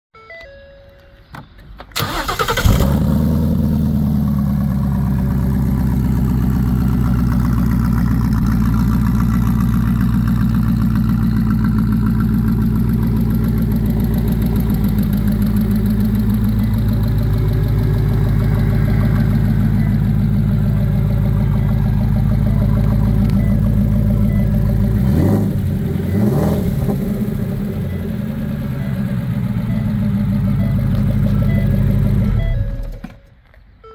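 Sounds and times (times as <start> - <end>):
car engine starting and idling: 0.3 - 33.9
car engine revving: 2.0 - 32.9.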